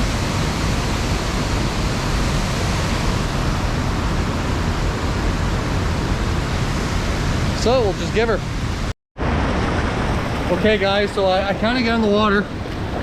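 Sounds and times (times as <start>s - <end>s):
rushing water of waterfall: 0.0s - 13.0s.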